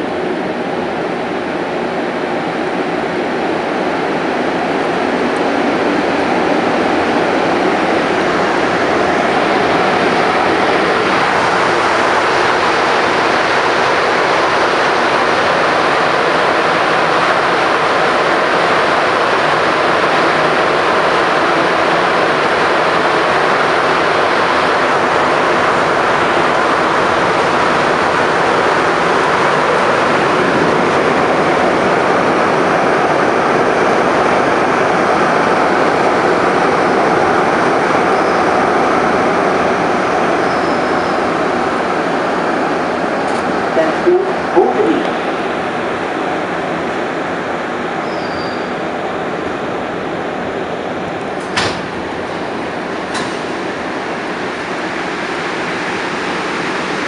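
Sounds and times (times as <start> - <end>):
metro car running noise: 0.0 - 57.0.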